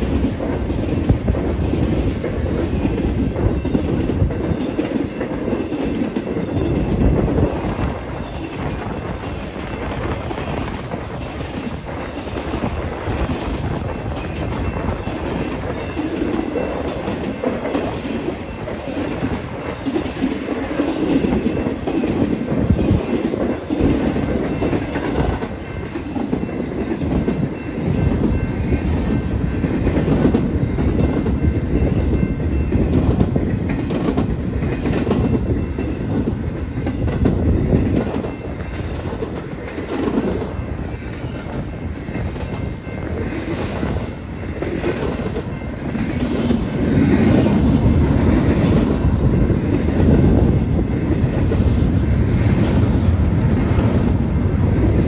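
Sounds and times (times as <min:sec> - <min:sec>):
railcars clattering: 0:00.0 - 0:55.0
train wheels rumbling on rails: 0:00.0 - 0:55.0.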